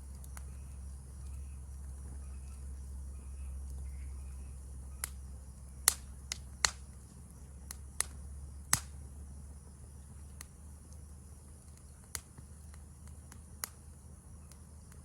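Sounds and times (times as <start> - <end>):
insect chorus: 0.0 - 15.0
wood fire crackling: 0.0 - 15.0.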